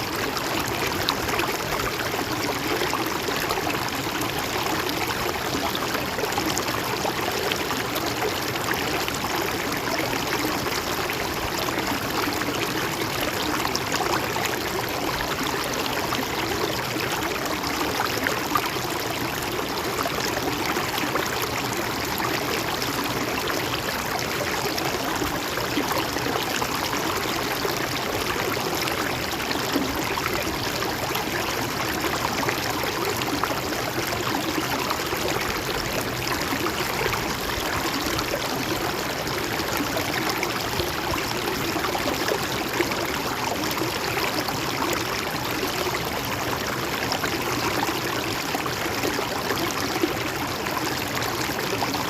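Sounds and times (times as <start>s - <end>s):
stream trickling over rocks: 0.0s - 52.0s.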